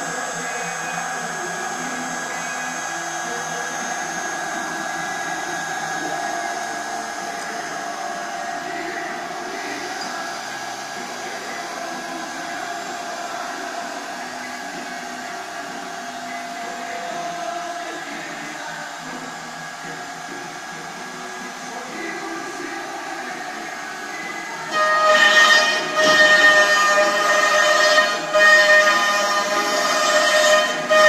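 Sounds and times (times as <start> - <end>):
machine whine tones: 0.0 - 31.0
router whirring: 0.0 - 31.0.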